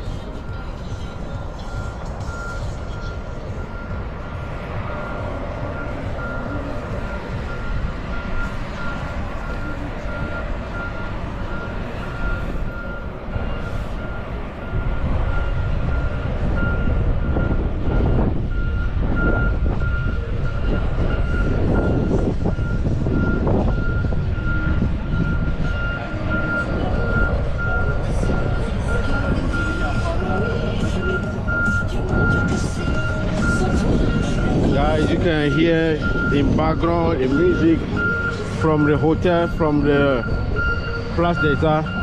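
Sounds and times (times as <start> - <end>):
reversing alarm beeping: 0.0 - 42.0.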